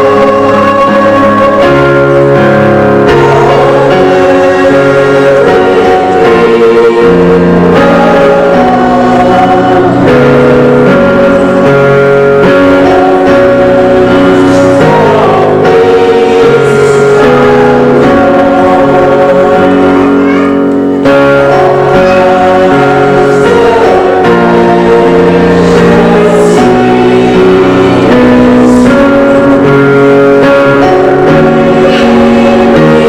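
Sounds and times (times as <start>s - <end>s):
worship song with guitar: 0.0s - 33.0s.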